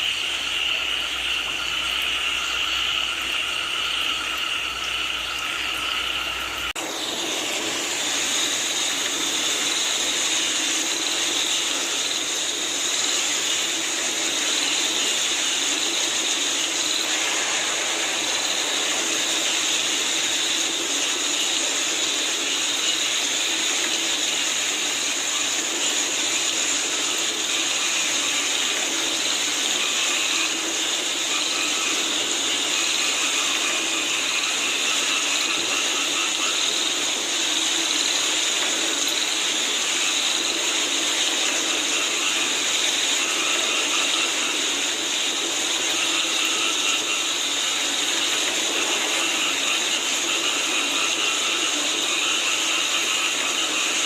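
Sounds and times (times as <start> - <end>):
steady rain: 0.0 - 54.0
frogs calling in chorus: 7.7 - 54.0.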